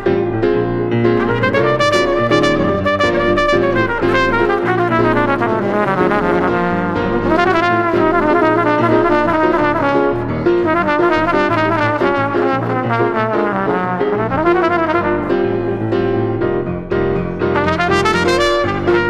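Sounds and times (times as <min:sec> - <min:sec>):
grand piano accompaniment: 0:00.0 - 0:19.0
trumpet melody: 0:00.0 - 0:19.0.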